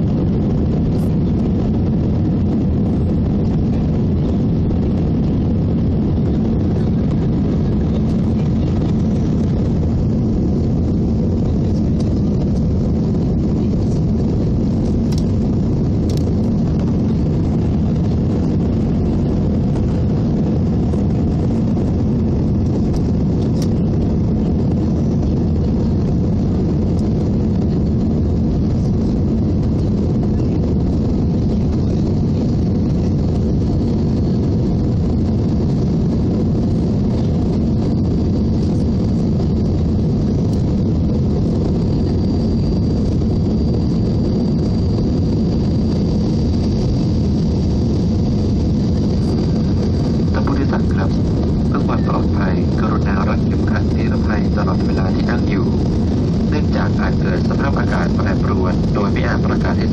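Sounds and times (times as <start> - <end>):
faint high whine: 0.0 - 59.9
jet engines rumbling: 0.0 - 59.9
rushing air: 0.0 - 59.9.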